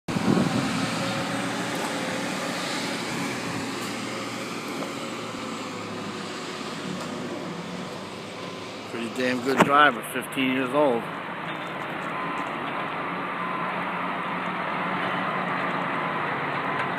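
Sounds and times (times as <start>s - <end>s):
diesel truck engine running: 0.1s - 16.9s.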